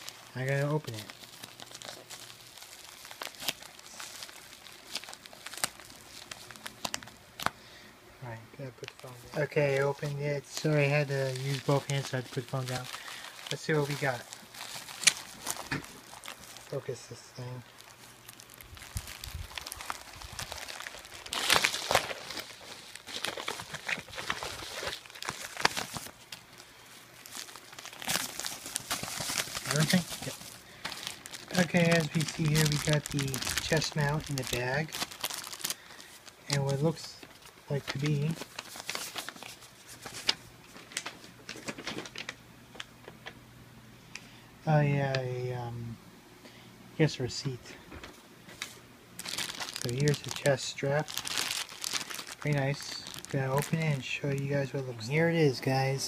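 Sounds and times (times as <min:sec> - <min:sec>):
plastic bubble mailer crinkling: 0:00.0 - 0:07.6, 0:08.8 - 0:42.9, 0:48.6 - 0:56.0.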